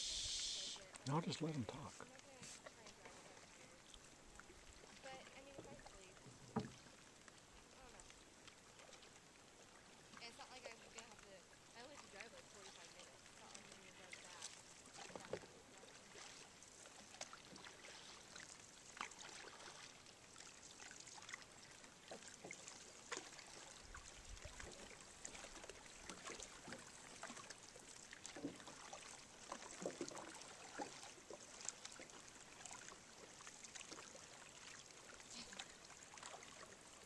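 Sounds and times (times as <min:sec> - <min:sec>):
water drips and splashes: 0:00.0 - 0:37.0.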